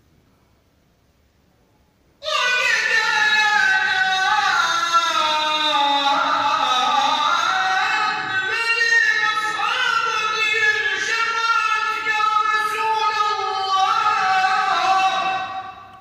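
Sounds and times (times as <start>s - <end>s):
man chanting: 2.2s - 16.0s.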